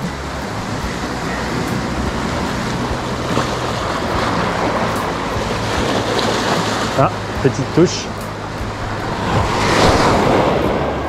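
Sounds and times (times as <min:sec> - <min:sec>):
waves breaking on rocky shore: 0:00.0 - 0:11.0.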